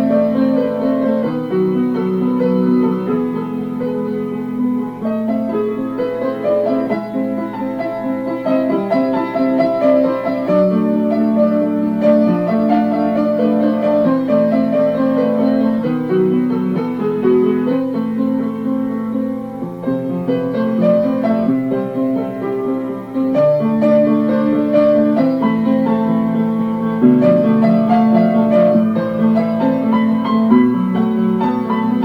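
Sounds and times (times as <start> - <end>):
solo piano chords: 0.0 - 32.0.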